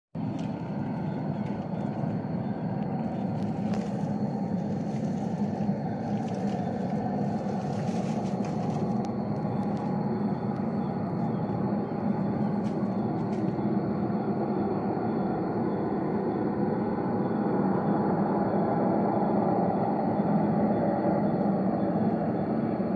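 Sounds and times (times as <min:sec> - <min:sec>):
low droning rumble from sky: 0:00.2 - 0:22.9.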